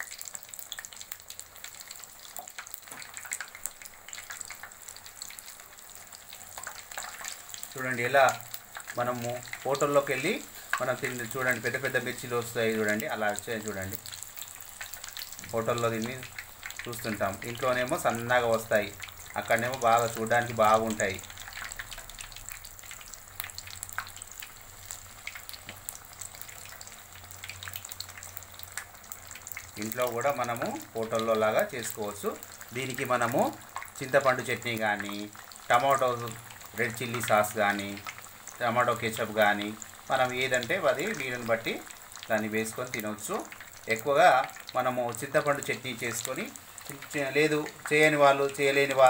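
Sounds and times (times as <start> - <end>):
chillies deep-frying in hot oil: 0.0 - 49.0.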